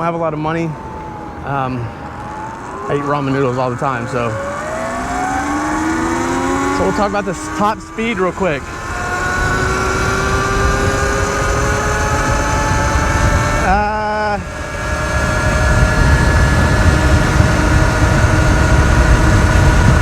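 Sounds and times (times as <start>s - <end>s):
electric motor whining: 0.0s - 20.0s
wind rumble on microphone: 1.1s - 20.0s.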